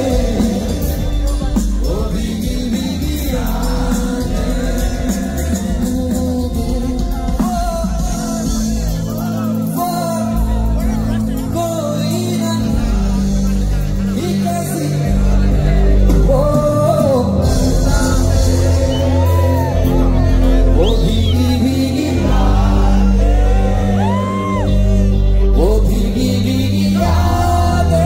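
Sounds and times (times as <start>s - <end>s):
bass: 0.0s - 28.0s
keyboard chords: 0.0s - 28.0s.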